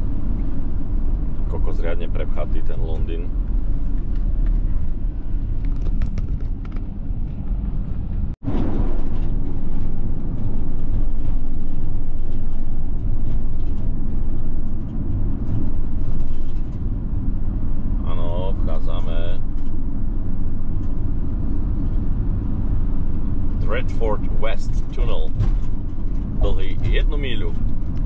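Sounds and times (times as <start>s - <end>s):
van engine and tyres rumbling: 0.0s - 28.0s.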